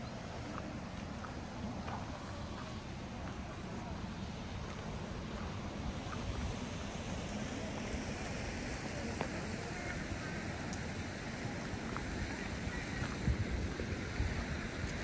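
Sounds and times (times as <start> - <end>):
wind rumbling on microphone: 0.0 - 15.0
steady hiss: 0.3 - 15.0.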